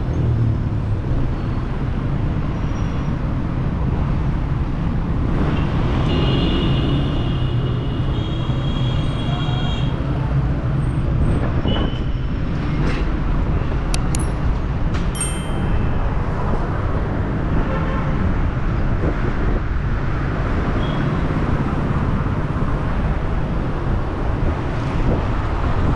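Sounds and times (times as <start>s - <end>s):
rumble of passing cars: 0.0s - 25.9s.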